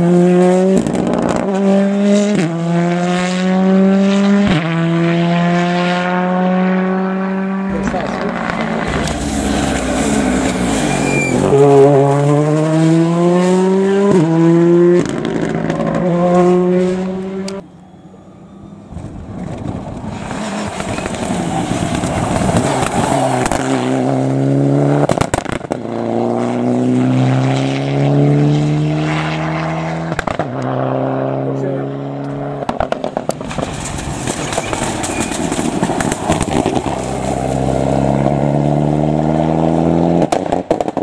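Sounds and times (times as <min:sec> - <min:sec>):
rally car engine at full throttle: 0:00.0 - 0:41.0.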